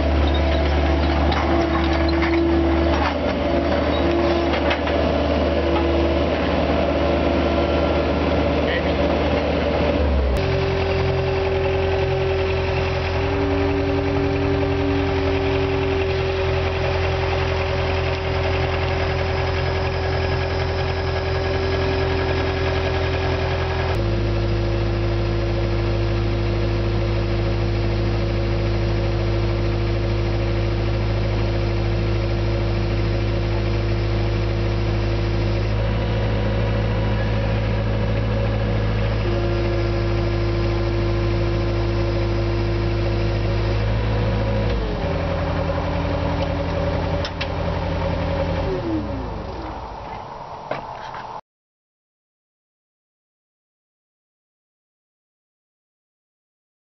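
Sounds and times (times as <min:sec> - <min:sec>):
skid-steer loader engine running: 0:00.0 - 0:51.4.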